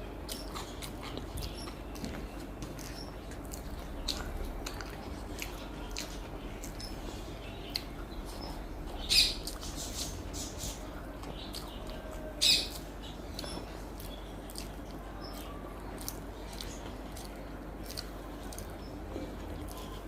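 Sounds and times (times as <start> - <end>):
soft chewing: 0.0 - 20.0.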